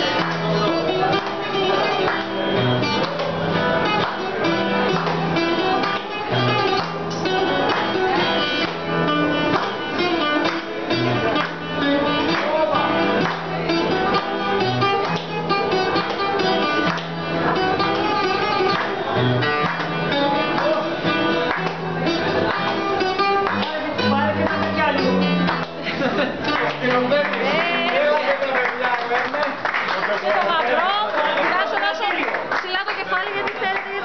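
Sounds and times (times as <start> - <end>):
bass line: 0.0 - 28.0
acoustic guitar strummed and picked: 0.0 - 28.7.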